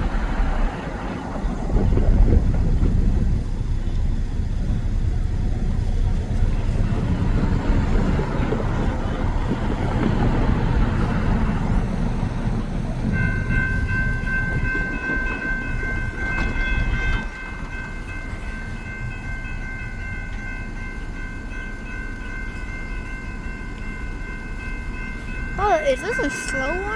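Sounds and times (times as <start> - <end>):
freight train rumbling: 0.0 - 26.9.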